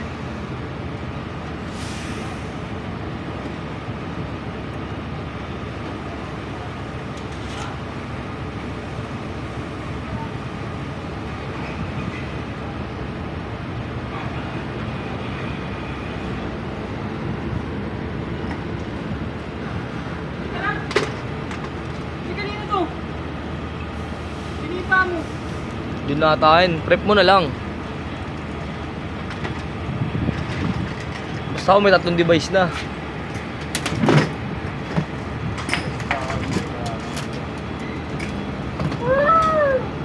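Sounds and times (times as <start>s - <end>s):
heavy vehicle engine rumble: 0.0s - 40.0s
road noise: 0.0s - 40.0s.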